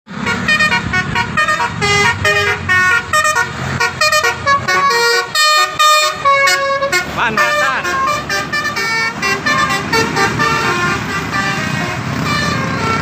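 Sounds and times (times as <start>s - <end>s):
low vehicle rumble: 0.1s - 13.0s
multi-tone bus horn tune: 0.1s - 13.0s.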